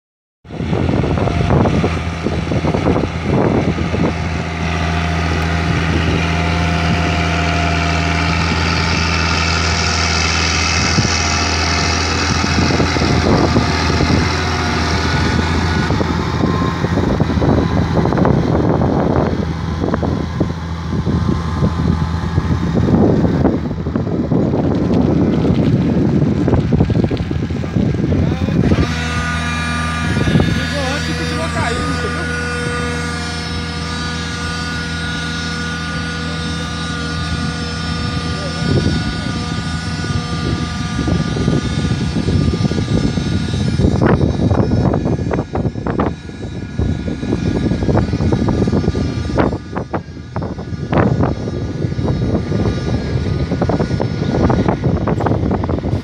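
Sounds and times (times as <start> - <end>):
tractor diesel engine running: 0.5 - 56.0
trailer rumbling by: 0.5 - 56.0.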